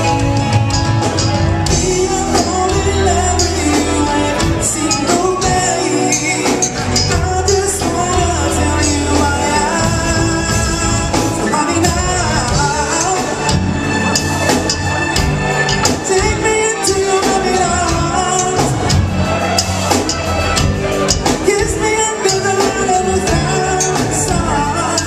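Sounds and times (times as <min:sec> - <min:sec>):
man singing: 0:00.0 - 0:13.9, 0:15.8 - 0:19.4, 0:21.1 - 0:25.0
bass guitar: 0:00.0 - 0:25.0
drums: 0:00.0 - 0:25.0
electric guitar: 0:00.0 - 0:25.0.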